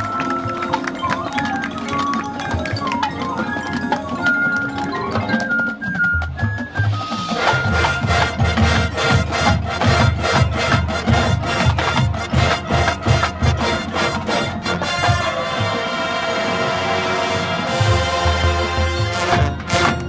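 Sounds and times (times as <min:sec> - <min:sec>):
drums and percussion beat: 0:00.0 - 0:16.4, 0:17.6 - 0:20.0
marching band playing: 0:00.0 - 0:20.0.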